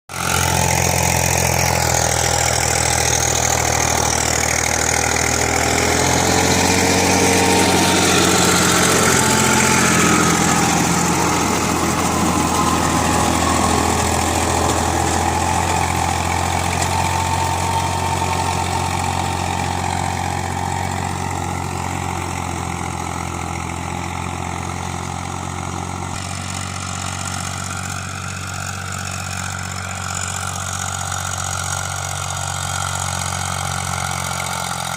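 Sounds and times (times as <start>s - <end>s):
tractor diesel engine idling: 0.1s - 34.9s.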